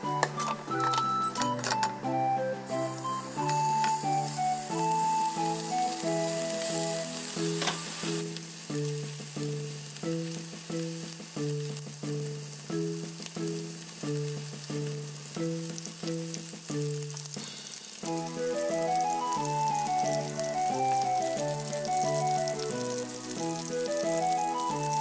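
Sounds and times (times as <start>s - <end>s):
background music: 0.0s - 25.0s
food sizzling in hot oil: 2.7s - 25.0s.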